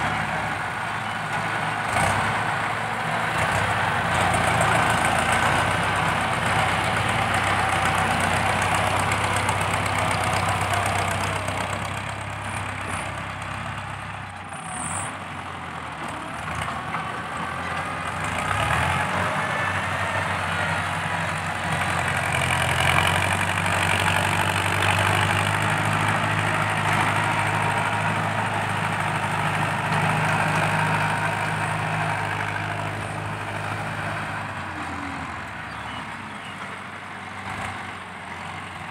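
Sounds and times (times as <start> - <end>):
tractor diesel engine working: 0.0 - 38.9.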